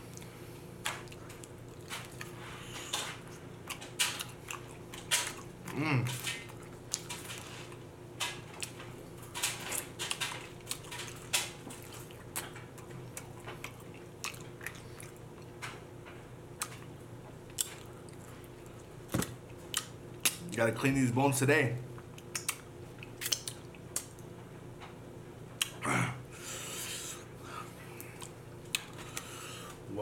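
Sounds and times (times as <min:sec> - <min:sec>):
chewing with wet smacks: 0:00.0 - 0:20.5, 0:21.9 - 0:24.4, 0:25.5 - 0:25.8, 0:27.8 - 0:29.8
faint steady hum: 0:00.0 - 0:30.0.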